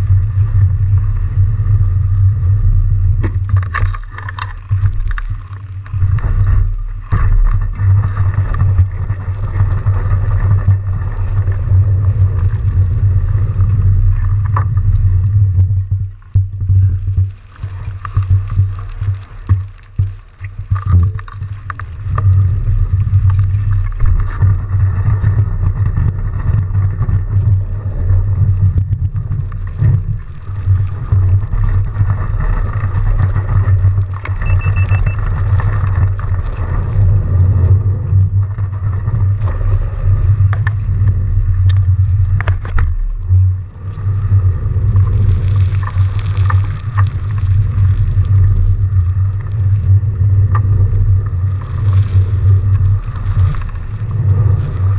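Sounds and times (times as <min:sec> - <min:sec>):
bike tyres rolling through snow: 0:00.0 - 0:54.9
wind noise: 0:00.0 - 0:54.9.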